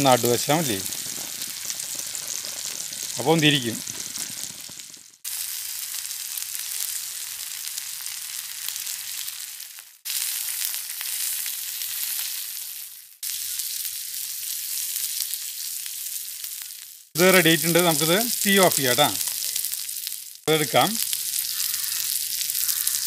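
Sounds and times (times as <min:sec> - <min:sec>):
beef sizzling in hot oil: 0:00.0 - 0:23.0.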